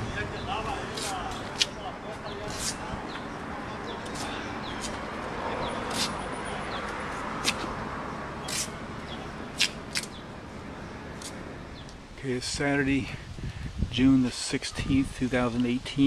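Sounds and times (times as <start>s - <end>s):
traffic hum: 0.0s - 16.0s.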